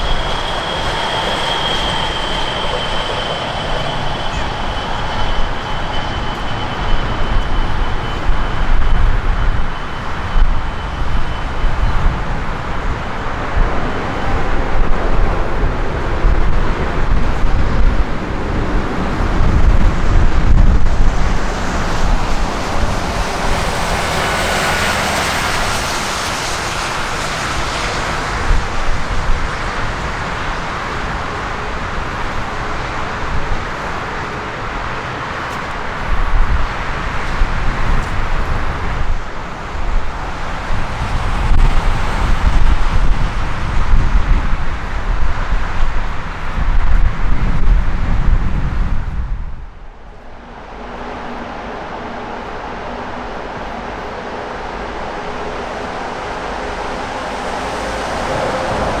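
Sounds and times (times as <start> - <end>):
high engine whine: 0.0 - 47.0, 48.6 - 59.0
jet engine roar: 0.0 - 48.0, 49.2 - 59.0.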